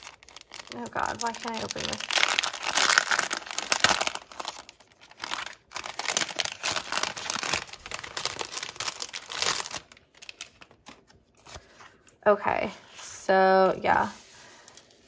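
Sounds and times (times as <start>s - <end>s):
crinkly package rustling: 0.0s - 12.3s.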